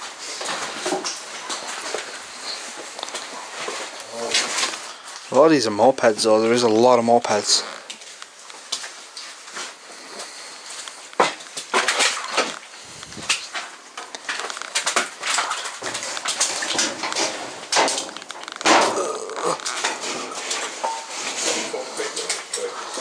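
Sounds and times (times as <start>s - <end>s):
footsteps crunching over debris: 0.0s - 23.0s
rustling: 0.0s - 23.0s.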